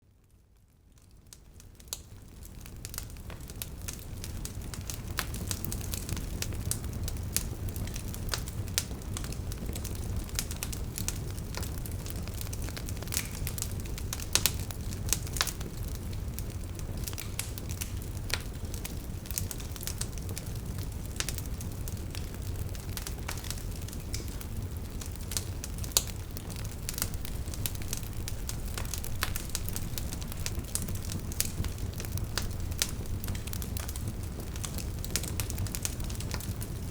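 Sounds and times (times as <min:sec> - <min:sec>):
low rumble of flames: 0:00.3 - 0:36.9
logs crackling and popping: 0:01.2 - 0:36.9.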